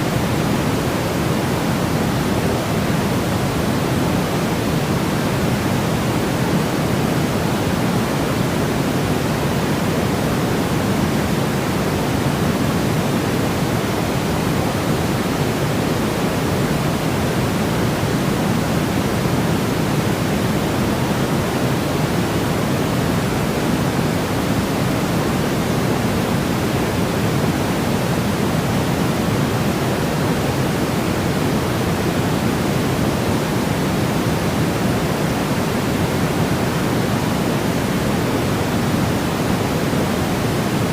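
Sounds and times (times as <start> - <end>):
steady white noise hiss: 0.0 - 40.9.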